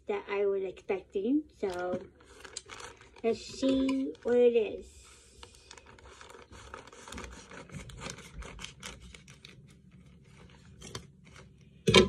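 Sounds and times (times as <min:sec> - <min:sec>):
plastic bag rustling: 0:01.6 - 0:11.8.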